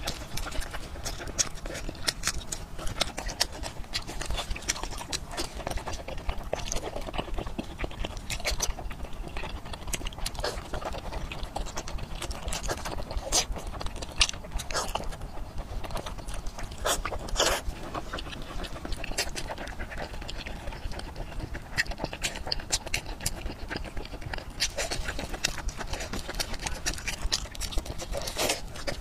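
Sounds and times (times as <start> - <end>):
wet chewing and smacking: 0.0 - 29.0.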